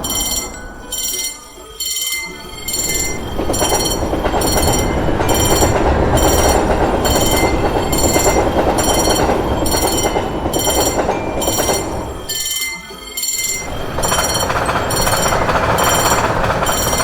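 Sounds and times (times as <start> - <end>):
railroad crossing warning bell: 0.0 - 17.0
train passing: 0.0 - 17.0.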